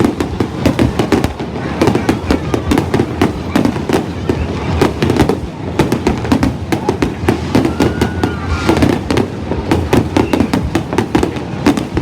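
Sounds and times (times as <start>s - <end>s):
crowd voices: 0.0s - 12.0s
fireworks bangs and crackles: 0.0s - 12.0s.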